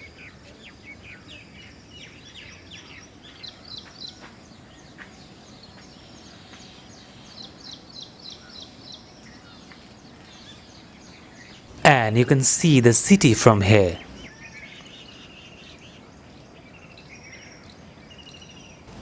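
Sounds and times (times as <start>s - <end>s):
small birds chirping: 0.0s - 12.2s, 12.8s - 19.0s
low outdoor background hum: 0.0s - 19.0s.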